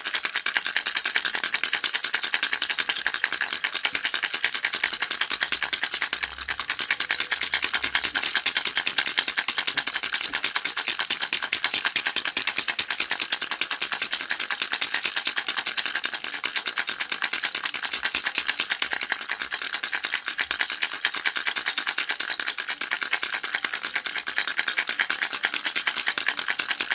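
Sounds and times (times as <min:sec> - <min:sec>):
baby rattle shaken: 0:00.0 - 0:26.9.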